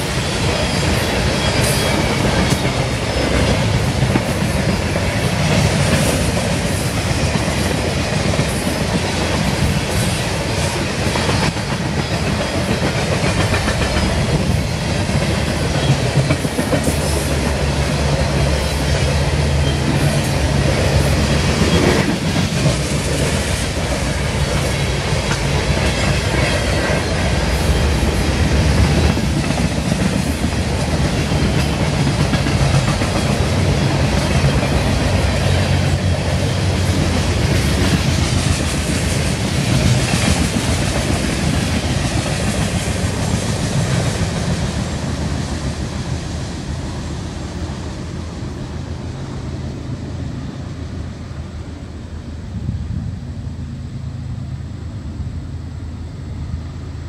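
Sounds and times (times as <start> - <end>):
train wheels clicking over rail joints: 0.0 - 46.9.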